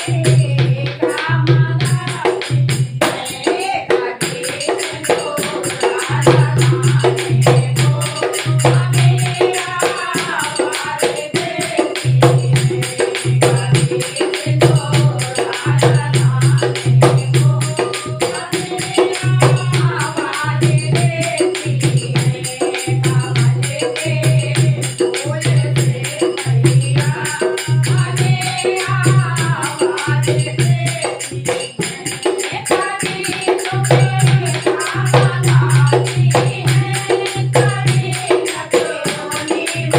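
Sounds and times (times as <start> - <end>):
person singing a melody: 0.0 - 39.9
steady percussion: 0.0 - 39.9.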